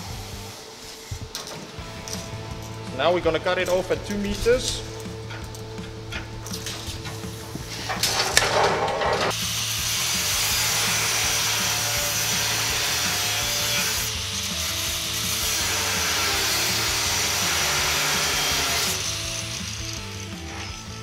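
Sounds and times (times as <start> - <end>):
angle grinder cutting steel: 1.8 - 21.0.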